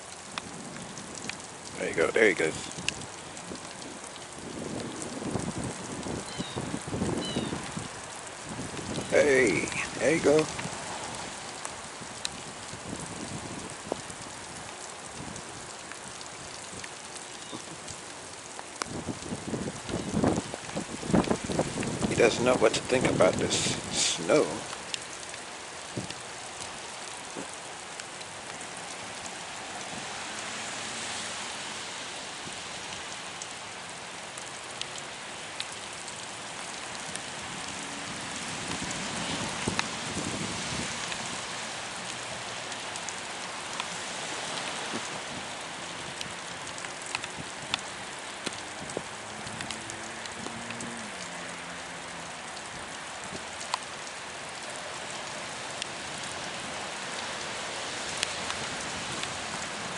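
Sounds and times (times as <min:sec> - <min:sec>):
raindrops ticking on surfaces: 0:00.0 - 0:59.9
steady rain hiss: 0:00.0 - 0:59.9.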